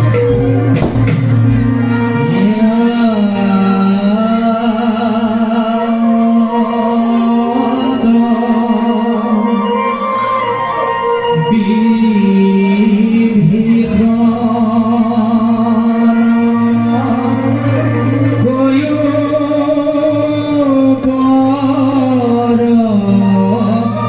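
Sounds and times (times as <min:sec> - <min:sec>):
instrumental accompaniment: 0:00.0 - 0:24.0
person singing long held notes: 0:01.8 - 0:24.0.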